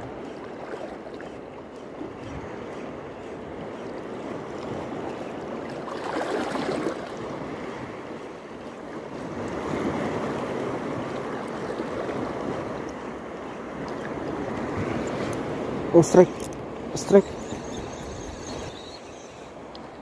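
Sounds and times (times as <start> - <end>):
waves washing over reef: 0.0 - 17.2.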